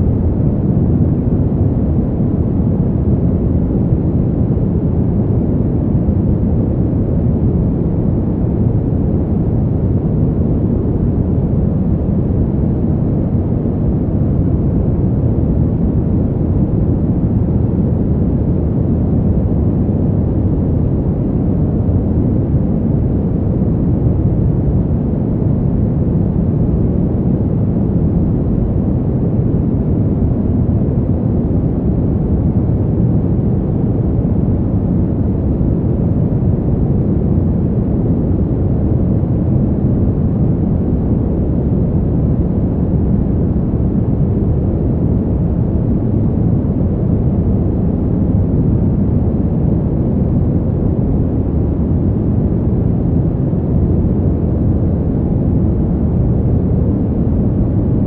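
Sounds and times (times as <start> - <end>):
deep wind rush: 0.0 - 58.0.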